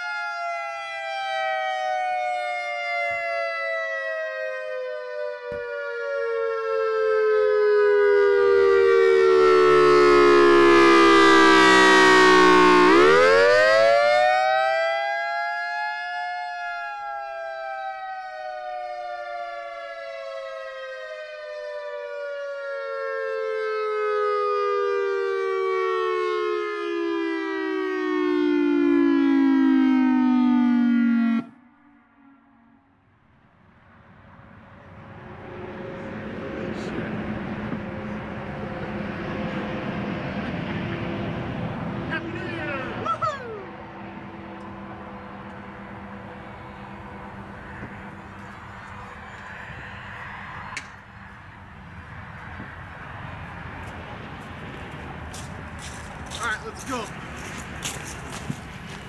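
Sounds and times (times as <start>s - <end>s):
outdoor warning siren wailing: 0.0s - 59.0s.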